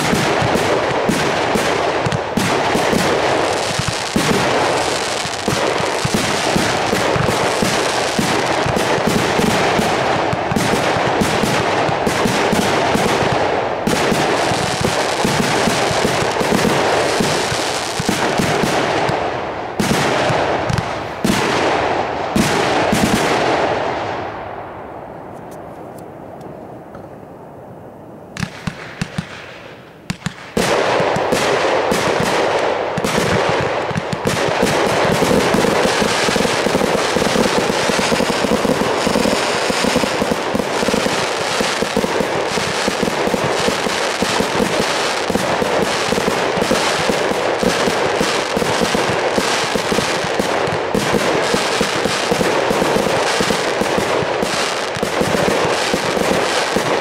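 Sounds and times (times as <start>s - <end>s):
fireworks bangs and crackling: 0.0s - 25.0s, 28.3s - 57.0s.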